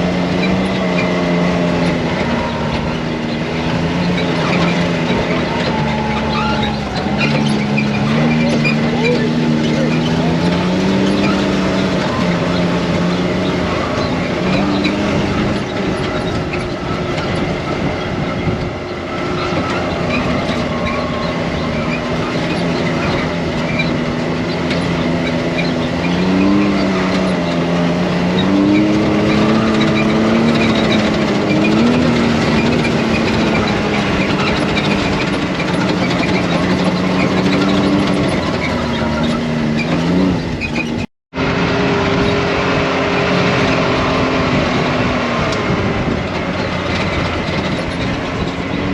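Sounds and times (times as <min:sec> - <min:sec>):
quad bike engine running: 0:00.0 - 0:48.9
rough rush of riding noise: 0:00.0 - 0:48.9.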